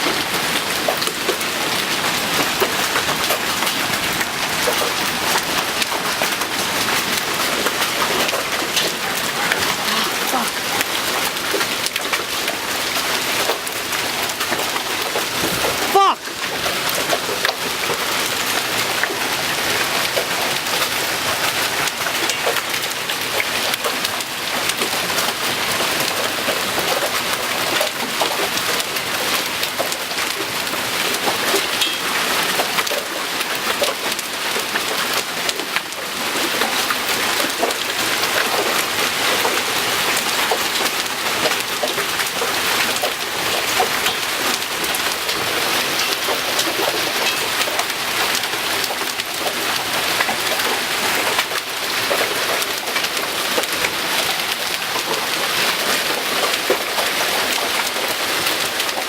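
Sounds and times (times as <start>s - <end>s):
hailstones clattering: 0.0s - 59.0s
hiss of falling rain: 0.0s - 59.0s.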